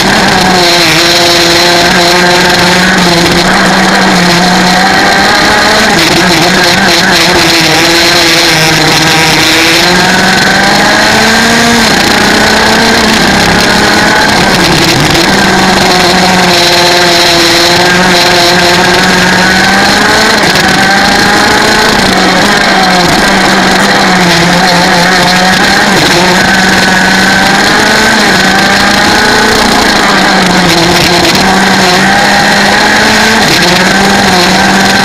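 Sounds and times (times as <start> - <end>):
kart engine revving: 0.0 - 35.0.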